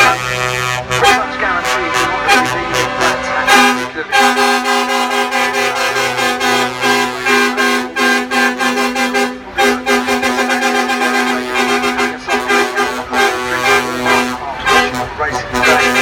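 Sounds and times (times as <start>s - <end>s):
brass-heavy music with rhythmic beat: 0.0s - 16.0s.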